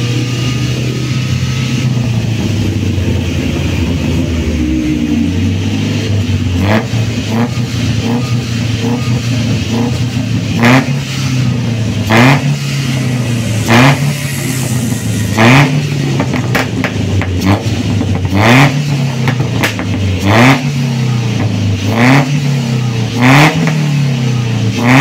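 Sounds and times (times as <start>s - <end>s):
car engine idling: 0.0s - 24.9s
engine throttle blips: 0.0s - 25.0s.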